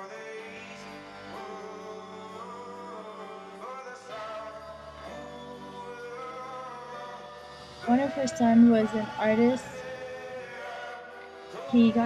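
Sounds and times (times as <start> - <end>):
person singing slow melody: 0.0 - 12.0
sustained instrumental chords: 0.9 - 12.0.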